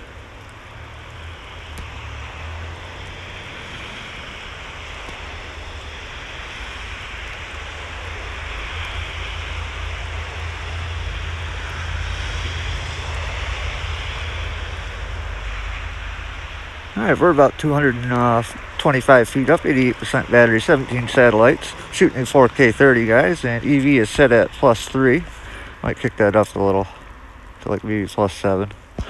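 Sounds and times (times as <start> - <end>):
blizzard wind buffeting microphone: 0.0 - 29.0.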